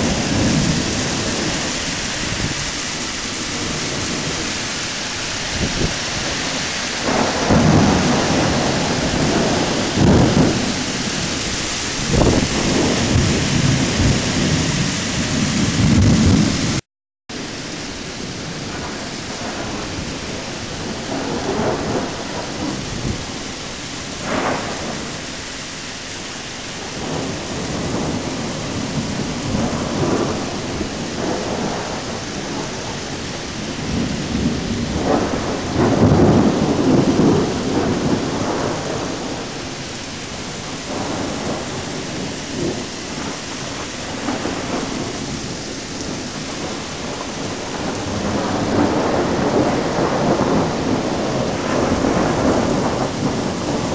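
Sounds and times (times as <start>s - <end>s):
rolling thunder rumbles: 0.0s - 53.9s
steady rain falling: 0.0s - 53.9s.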